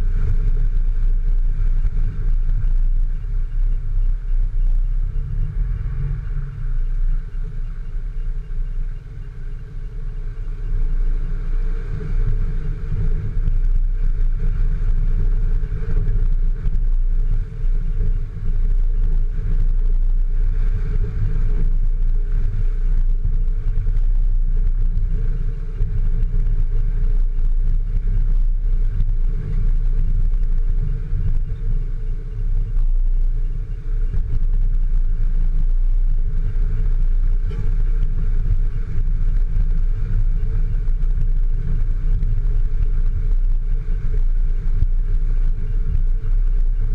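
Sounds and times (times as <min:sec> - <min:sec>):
vehicle engine rumbling: 0:00.0 - 0:46.9.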